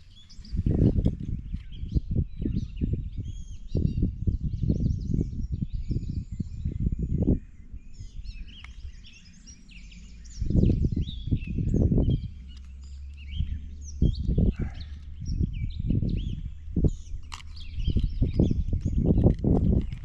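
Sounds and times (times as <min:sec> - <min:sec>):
low rumbling: 0:00.0 - 0:20.0
songbirds chirping: 0:00.0 - 0:20.0.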